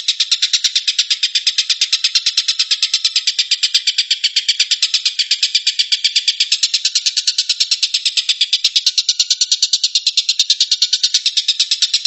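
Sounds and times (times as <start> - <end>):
bird chattering call: 0.0 - 12.0.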